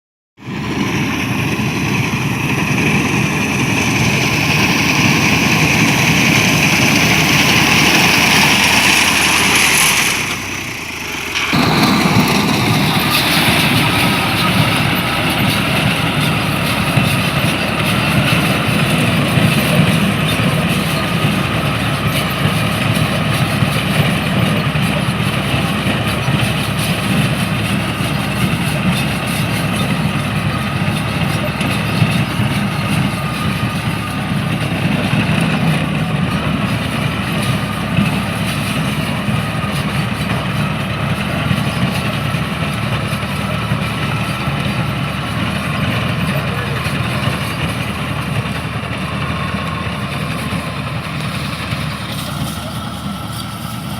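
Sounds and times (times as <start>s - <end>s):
harvesting machine engine running: 0.4s - 53.9s.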